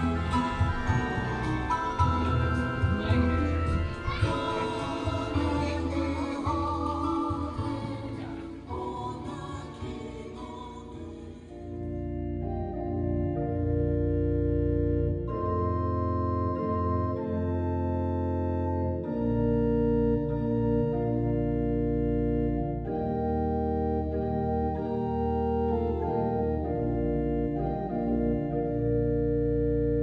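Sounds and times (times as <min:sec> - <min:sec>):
organ playing sustained chords: 0:00.0 - 0:30.0.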